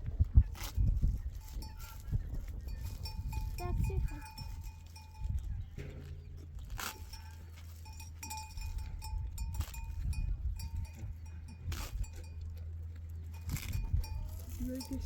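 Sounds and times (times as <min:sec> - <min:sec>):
low steady rumble: 0:00.0 - 0:15.0
livestock bells clinking: 0:01.4 - 0:15.0.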